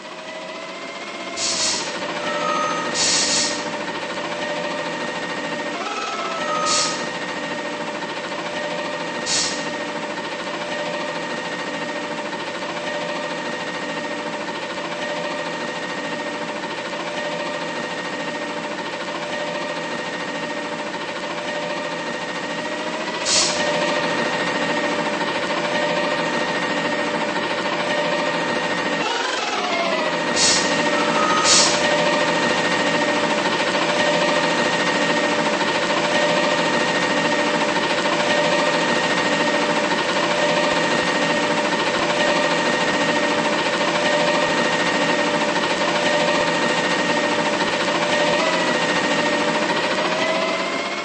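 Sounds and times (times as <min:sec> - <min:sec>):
diesel truck engine droning: 0:00.0 - 0:51.0.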